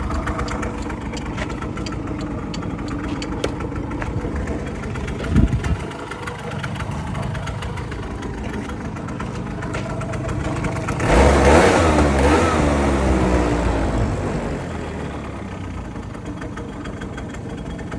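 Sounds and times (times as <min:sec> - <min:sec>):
scooter engine idling and revving: 0:00.0 - 0:17.9.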